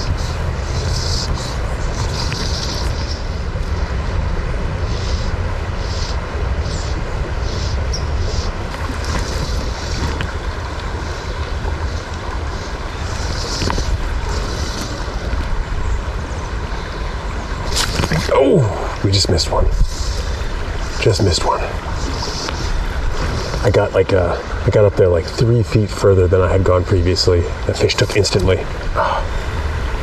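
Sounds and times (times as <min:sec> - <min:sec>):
running stream water: 0:00.0 - 0:30.0
wind buffeting microphone: 0:00.0 - 0:30.0.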